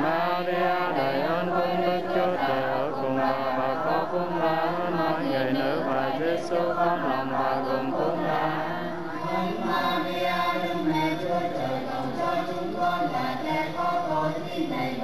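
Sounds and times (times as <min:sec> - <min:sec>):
congregation chanting in unison: 0:00.0 - 0:15.0.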